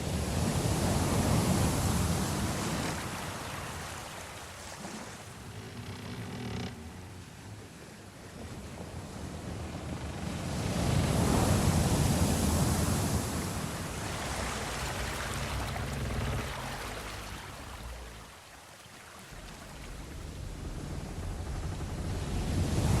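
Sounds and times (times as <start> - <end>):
sea waves washing: 0.0 - 23.0.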